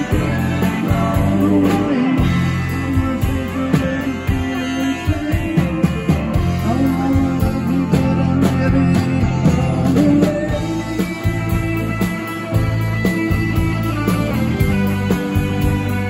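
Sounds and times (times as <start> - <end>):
electric guitar: 0.0 - 16.0
rock band playing: 0.0 - 16.0.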